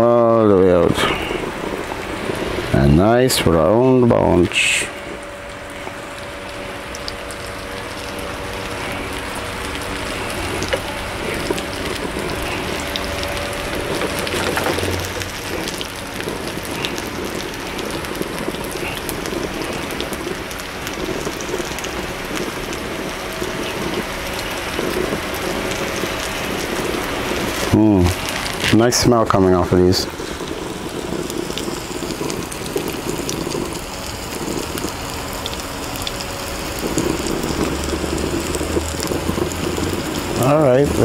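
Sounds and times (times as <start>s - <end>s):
batter sizzling in a frying pan: 0.0s - 41.0s
faint steady hum: 0.0s - 41.0s.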